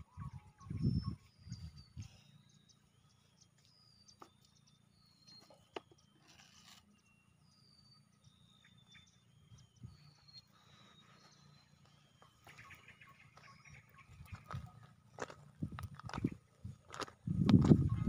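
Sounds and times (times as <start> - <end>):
faint whistled bird calls: 0.0 - 15.4.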